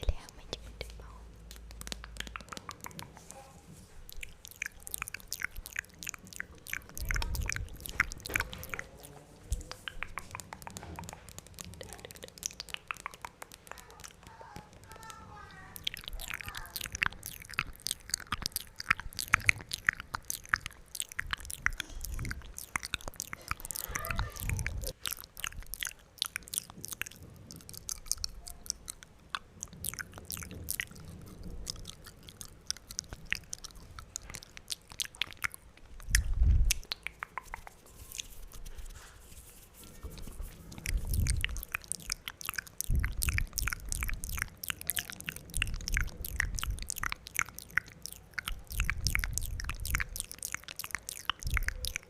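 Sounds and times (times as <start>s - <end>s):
wet mouth clicks and smacks: 0.0s - 52.0s.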